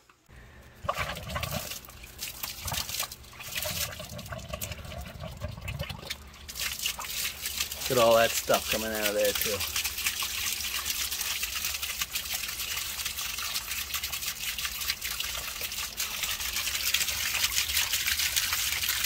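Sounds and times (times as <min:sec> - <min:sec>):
water gushing and splashing: 0:00.8 - 0:19.0.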